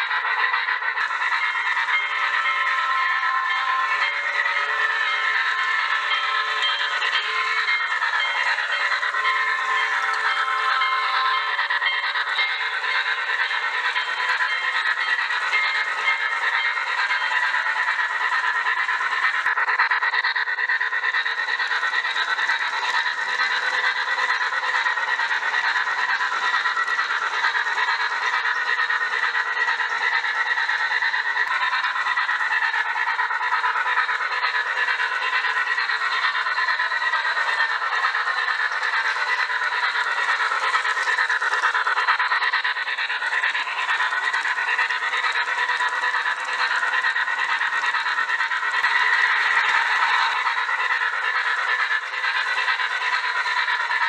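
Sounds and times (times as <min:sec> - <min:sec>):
model train running on track: 0:00.0 - 0:54.0.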